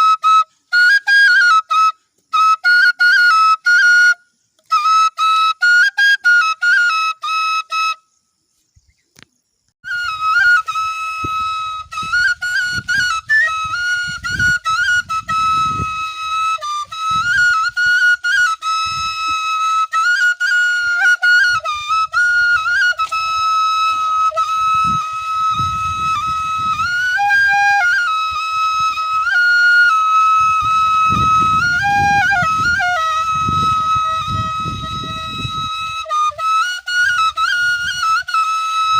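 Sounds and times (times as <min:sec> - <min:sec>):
bamboo flute playing folk tune: 0:00.0 - 0:08.8, 0:09.8 - 0:38.9.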